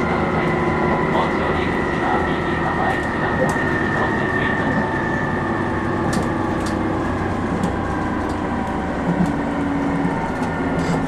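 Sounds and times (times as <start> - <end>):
train cabin engine hum: 0.0 - 11.0.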